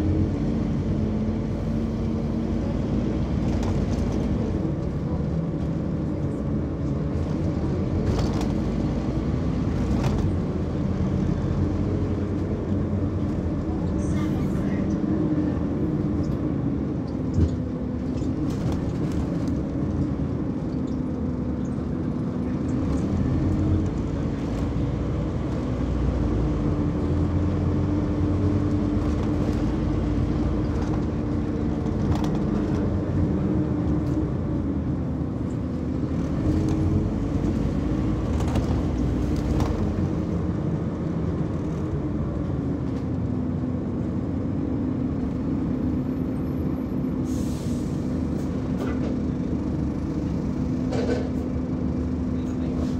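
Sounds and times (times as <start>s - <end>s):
bus engine rumbling: 0.0s - 52.9s
rattles and clicks in bus cabin: 0.0s - 52.9s.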